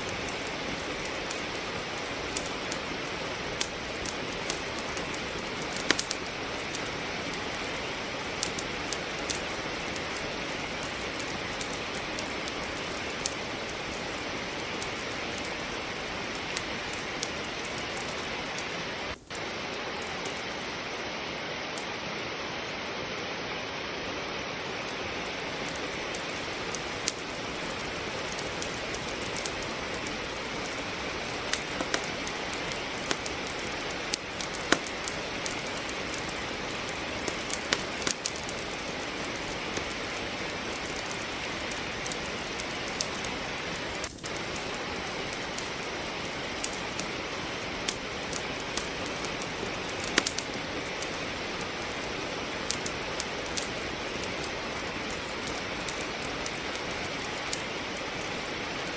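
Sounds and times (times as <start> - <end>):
fireplace wood crackling: 0.0 - 58.9
rain hissing: 0.0 - 58.9.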